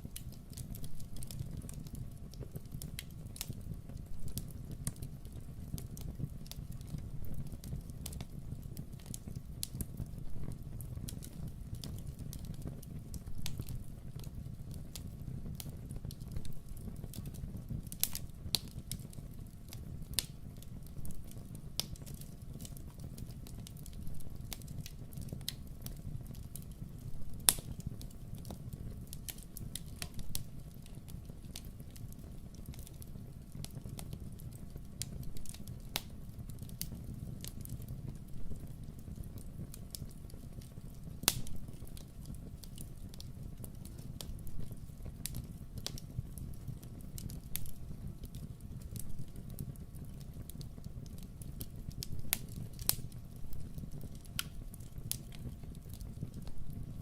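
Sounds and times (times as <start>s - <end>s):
fire popping and snapping: 0.0s - 57.0s
low rumble of flames: 0.0s - 57.0s
wood fire crackling: 0.0s - 57.0s.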